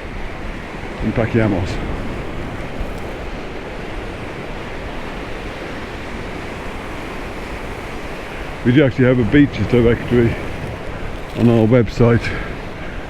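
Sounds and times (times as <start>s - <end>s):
sea waves on shore: 0.0s - 13.0s
wind buffeting microphone: 0.0s - 13.0s.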